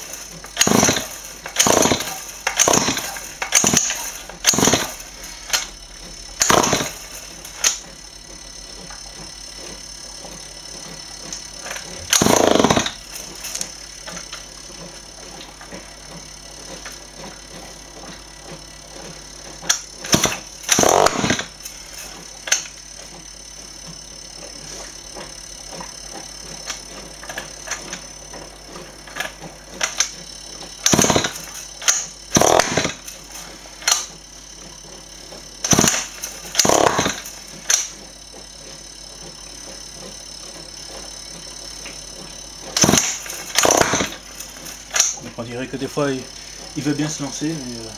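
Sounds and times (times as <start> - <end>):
small engine cranking and sputtering: 0.0 - 47.9.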